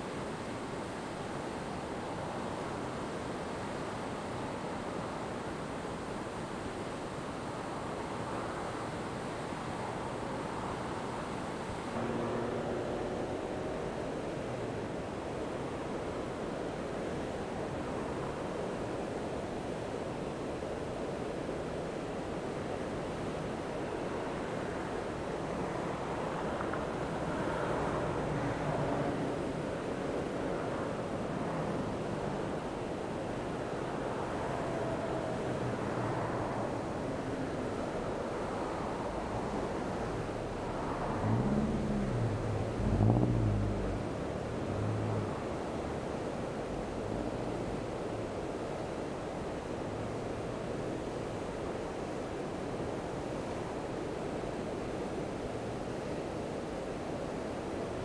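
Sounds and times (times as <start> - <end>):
water rushing over dam spillway: 0.0 - 58.0.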